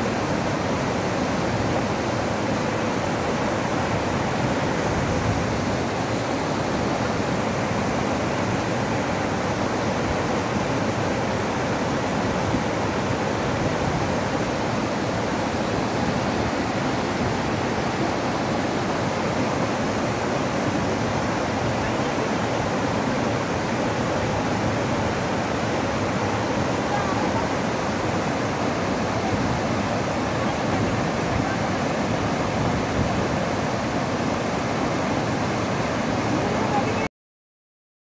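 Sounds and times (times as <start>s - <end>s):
stream rushing over boulders: 0.0s - 37.1s.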